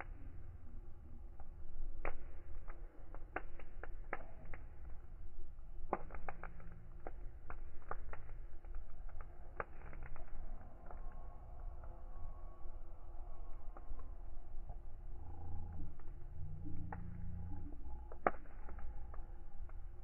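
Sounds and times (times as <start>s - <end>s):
wood fire crackling and popping: 0.0s - 11.9s, 13.5s - 20.0s
low rumble of flames: 0.0s - 20.0s.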